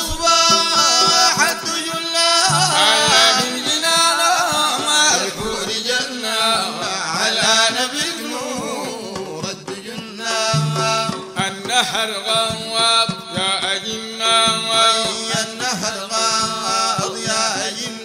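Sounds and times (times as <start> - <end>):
instrumental accompaniment: 0.0 - 6.1, 8.4 - 18.0
man singing devotional song: 0.0 - 18.0.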